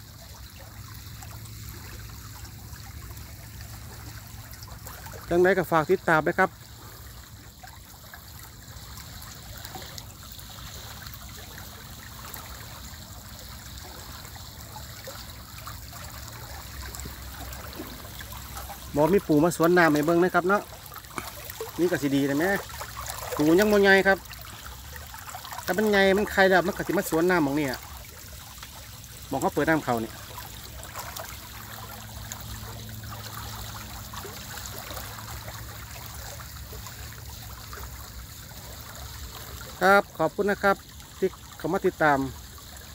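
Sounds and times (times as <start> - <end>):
water flowing into pond: 0.0 - 42.9.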